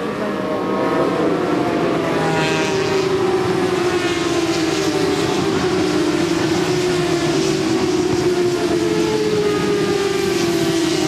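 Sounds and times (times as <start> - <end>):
motorcycle engines revving high: 0.0 - 11.0.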